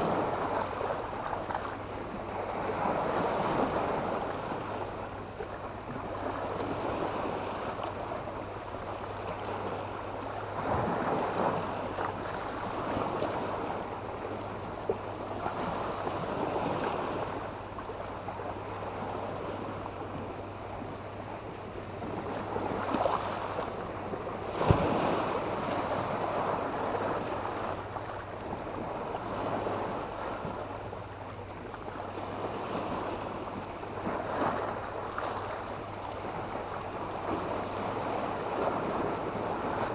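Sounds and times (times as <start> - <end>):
sea waves washing onto beach: 0.0 - 39.9.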